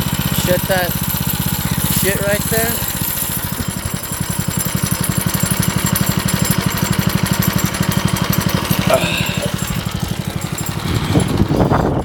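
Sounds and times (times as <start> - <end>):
go-kart engine putter: 0.0 - 12.0.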